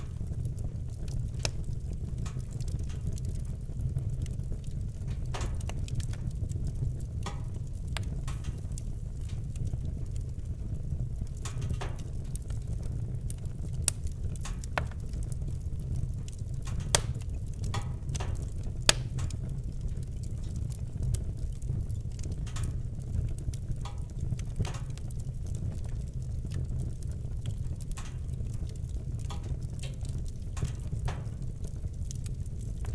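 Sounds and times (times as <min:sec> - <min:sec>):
fire crackling and popping: 0:00.0 - 0:32.9
fire low rumble: 0:00.0 - 0:32.9.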